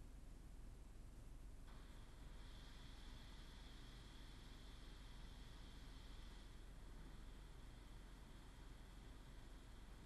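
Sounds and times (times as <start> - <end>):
faint low rumble: 0.0 - 10.0
faint hiss: 1.6 - 10.0.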